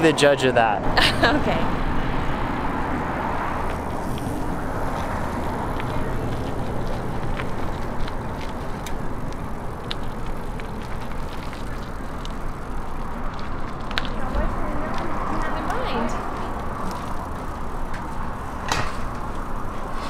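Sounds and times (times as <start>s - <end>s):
bicycle tyres rumbling on asphalt: 0.0s - 20.0s
light bicycle clicks: 3.6s - 20.0s.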